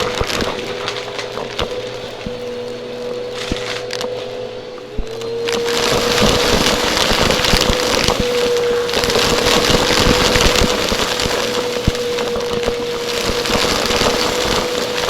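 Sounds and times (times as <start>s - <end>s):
crackles and clicks: 0.0s - 15.0s
vacuum cleaner running: 0.0s - 15.0s.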